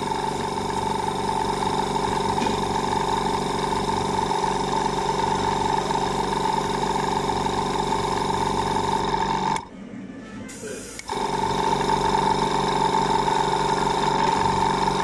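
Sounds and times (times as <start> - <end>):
spray gun and compressor hum: 0.0 - 9.6, 10.5 - 15.0.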